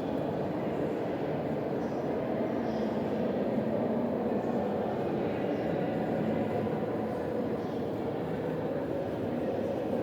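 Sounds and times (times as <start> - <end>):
metro station rumble and din: 0.0 - 10.0.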